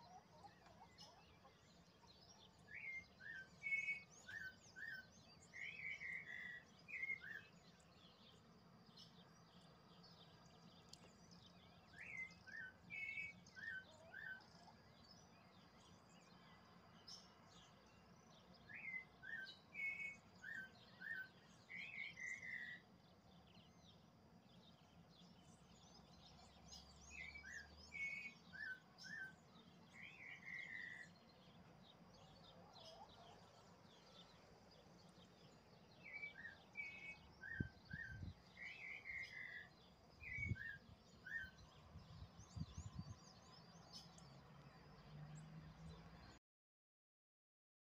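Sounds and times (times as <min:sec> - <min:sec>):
faint bird chirps: 0:00.0 - 0:44.4
songbird singing short song: 0:00.0 - 0:46.4.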